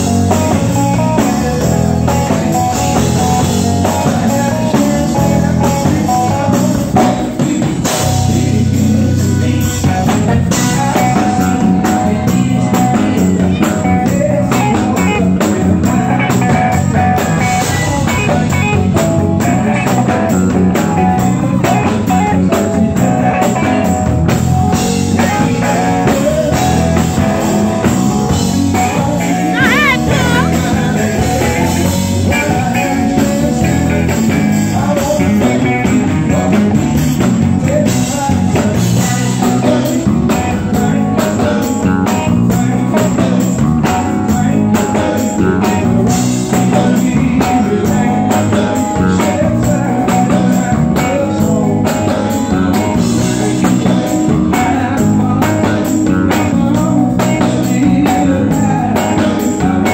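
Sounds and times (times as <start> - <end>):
person singing: 0.0 - 23.9, 24.9 - 59.9
drum kit: 0.0 - 59.9
electric guitar: 0.0 - 59.9
keyboard: 0.0 - 59.9.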